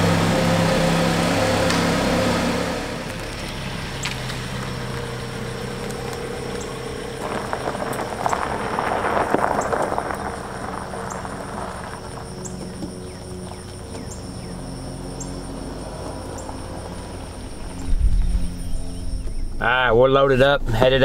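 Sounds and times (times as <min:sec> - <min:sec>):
car driving off: 0:00.0 - 0:21.0
car engine idling: 0:00.0 - 0:21.0
crackly tyre noise: 0:00.0 - 0:21.0.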